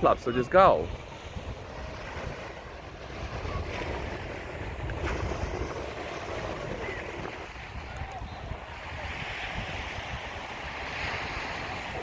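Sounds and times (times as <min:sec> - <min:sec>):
surf washing onto beach: 0:00.0 - 0:12.0
wind rumbling over microphone: 0:00.0 - 0:12.0.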